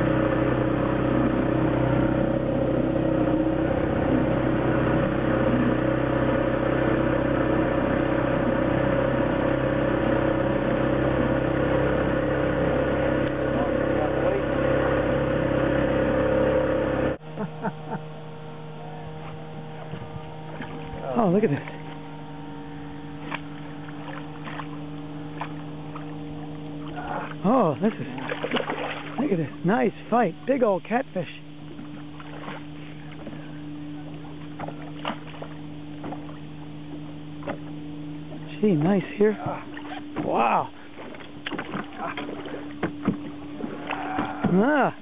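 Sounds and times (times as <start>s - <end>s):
boat motor running: 0.0s - 45.0s
electrical hum: 0.0s - 45.0s.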